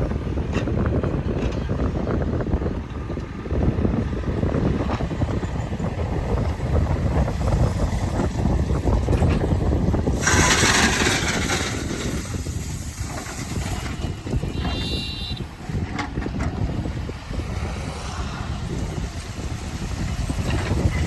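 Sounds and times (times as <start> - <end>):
heavy diesel machinery rumbling: 0.0 - 21.0.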